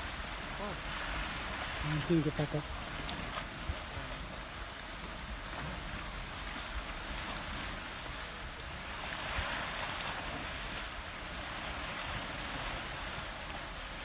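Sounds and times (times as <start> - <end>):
ocean waves against rocks: 0.0 - 14.0
wind rumbling on microphone: 0.0 - 14.0.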